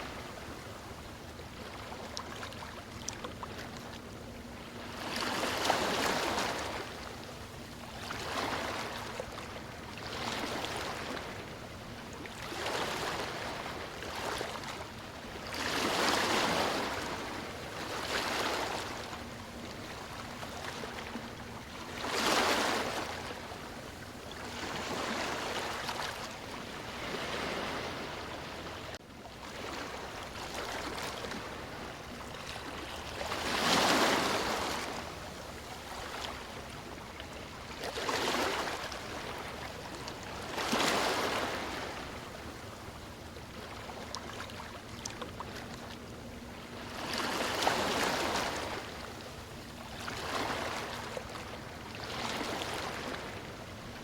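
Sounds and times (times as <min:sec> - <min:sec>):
sea waves breaking on a beach: 0:00.0 - 0:54.0.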